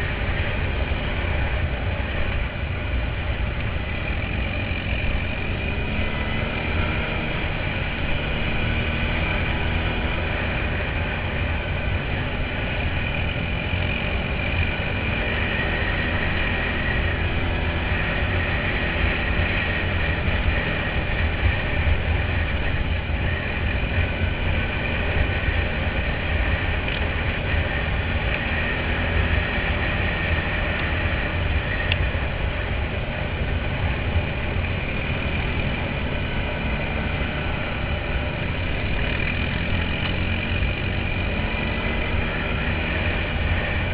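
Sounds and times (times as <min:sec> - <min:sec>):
quad bike engine running: 0:00.0 - 0:43.9.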